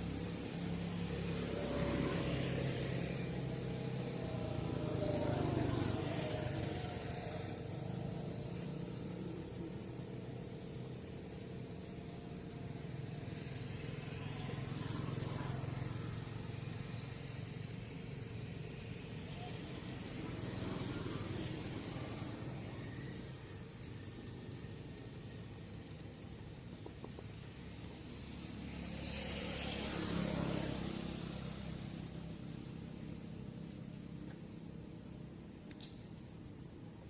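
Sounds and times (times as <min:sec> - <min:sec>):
vehicle engines running: 0:00.0 - 0:37.0.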